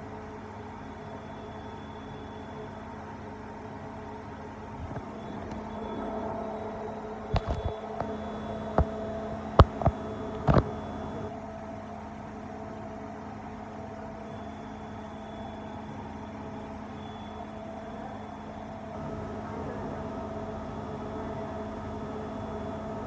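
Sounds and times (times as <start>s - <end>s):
washing machine electrical hum: 0.0s - 23.0s.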